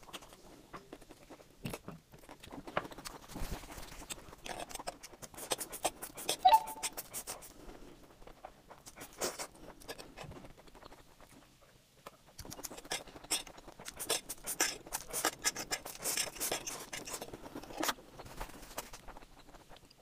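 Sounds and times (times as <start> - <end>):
slurping and chewing noodles: 0.0 - 20.0.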